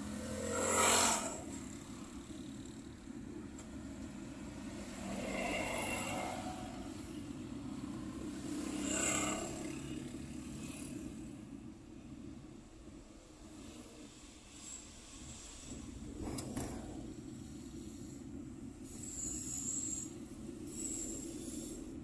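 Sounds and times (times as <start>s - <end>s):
car engine and tyre noise: 0.0s - 22.0s
passing traffic: 0.0s - 22.0s.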